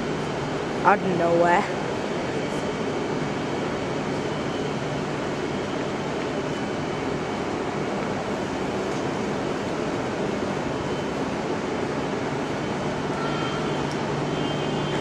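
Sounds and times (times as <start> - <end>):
electric train rumbling slowly: 0.0 - 15.0.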